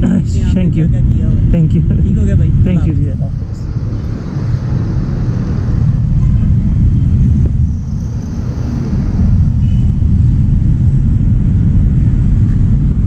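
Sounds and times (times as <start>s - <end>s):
road and vehicle noise: 0.0s - 13.0s
wind buffeting microphone: 0.0s - 13.0s.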